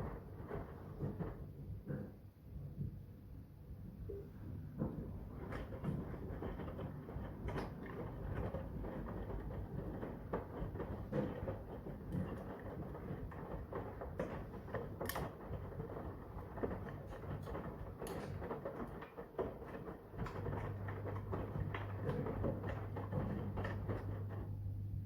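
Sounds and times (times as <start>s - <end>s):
laundry knocking and splashing in drum: 0.0s - 3.2s, 4.2s - 24.8s
washing machine tumbling laundry: 0.0s - 25.0s.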